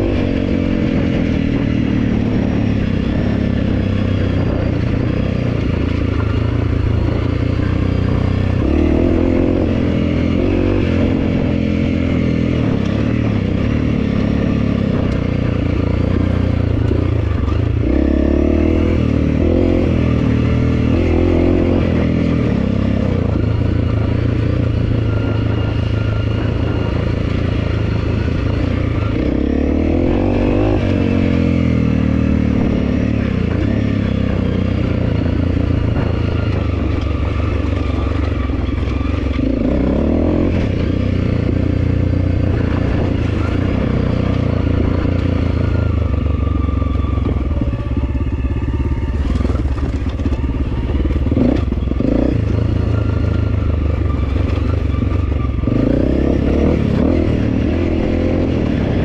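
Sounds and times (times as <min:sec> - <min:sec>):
clatter over rough ground: 0:00.0 - 0:59.0
motorcycle engine at low revs: 0:00.0 - 0:59.0.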